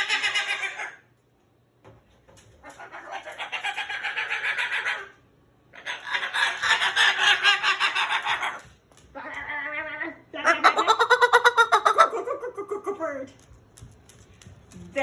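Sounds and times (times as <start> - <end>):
parrot clucking chatter: 0.0 - 1.2, 2.5 - 13.4.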